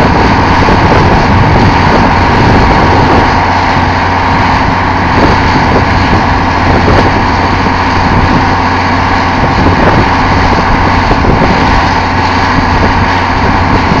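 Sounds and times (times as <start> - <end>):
drilling rig engine drone: 0.0 - 14.0.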